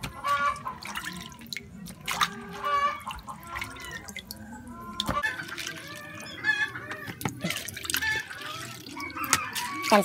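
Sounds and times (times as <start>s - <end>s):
water splashing in plastic basin: 0.0s - 10.0s.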